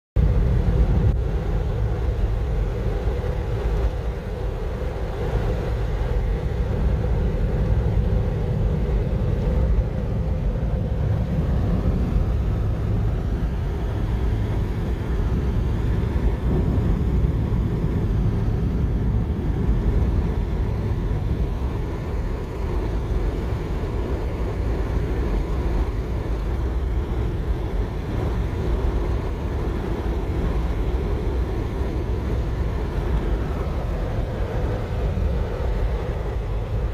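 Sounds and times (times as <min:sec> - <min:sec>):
car cabin road noise: 0:00.2 - 0:36.9.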